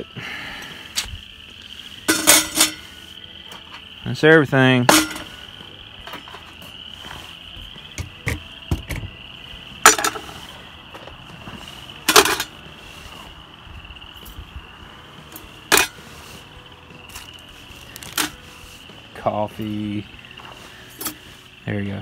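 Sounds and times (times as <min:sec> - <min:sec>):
steady high chirring: 0:00.0 - 0:22.0.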